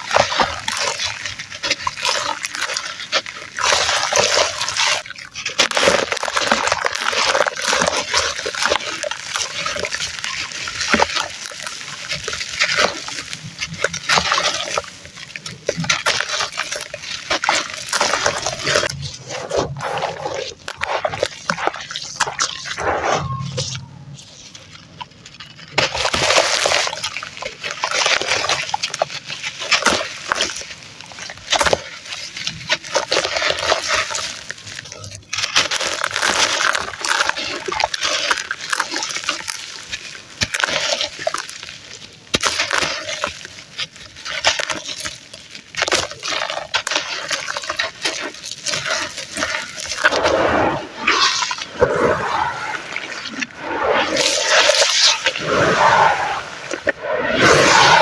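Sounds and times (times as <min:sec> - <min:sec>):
sand crumbling into water: 0:00.0 - 0:58.0.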